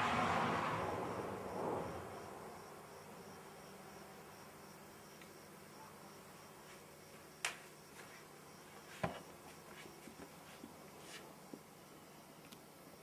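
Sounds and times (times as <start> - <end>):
low steady hiss: 0.0 - 13.0.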